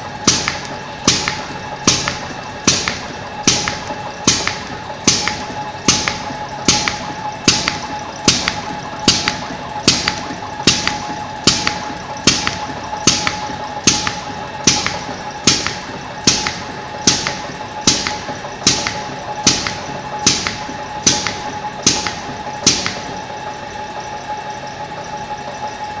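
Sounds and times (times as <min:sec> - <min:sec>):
machine motor hum: 0:00.0 - 0:26.0
pneumatic cutter snapping: 0:00.2 - 0:23.2.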